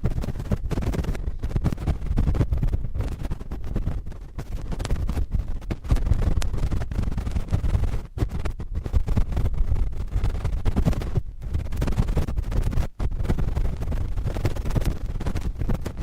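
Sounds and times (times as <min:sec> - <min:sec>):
cotton swabs scratching microphone: 0:00.0 - 0:16.0.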